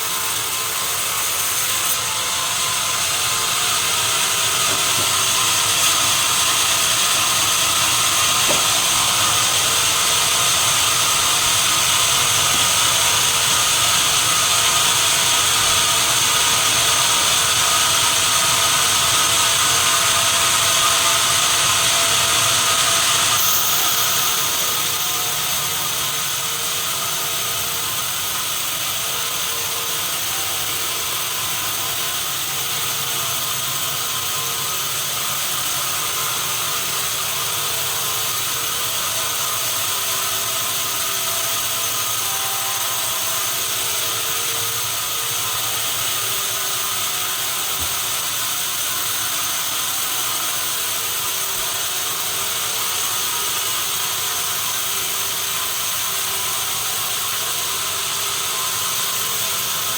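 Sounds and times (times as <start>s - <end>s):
sawmill machinery whirring: 0.0s - 59.9s.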